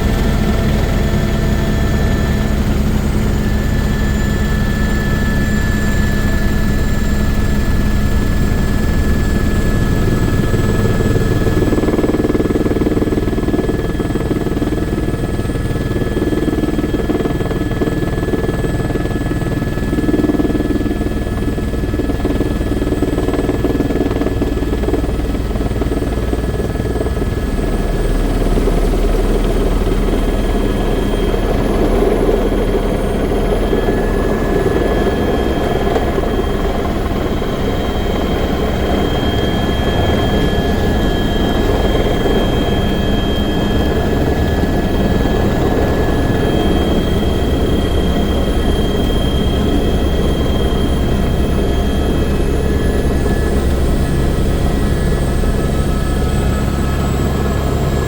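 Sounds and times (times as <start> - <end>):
helicopter rotor and engine rumble: 0.0 - 58.0
high turbine whine: 0.0 - 58.0.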